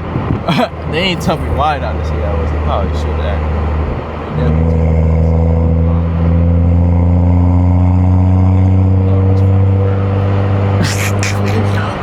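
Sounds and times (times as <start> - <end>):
car engine drone from cabin: 0.5 - 10.8.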